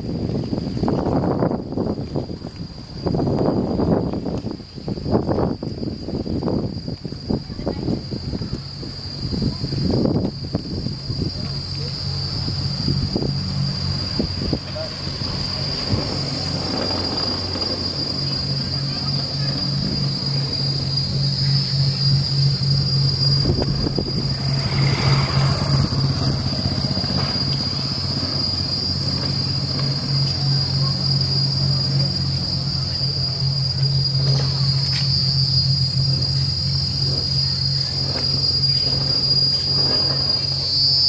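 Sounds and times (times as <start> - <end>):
insects droning: 0.0 - 41.0
rushing noise: 0.0 - 41.0.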